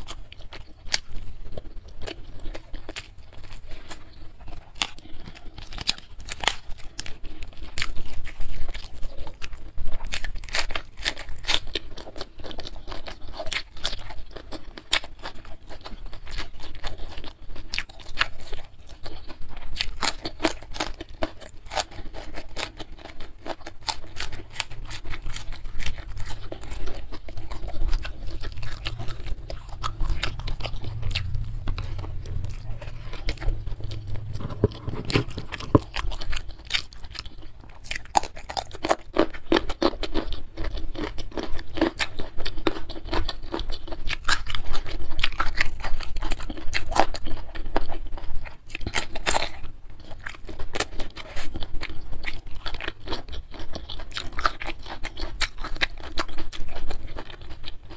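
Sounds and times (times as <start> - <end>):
chewing and crunching: 0.0 - 57.9.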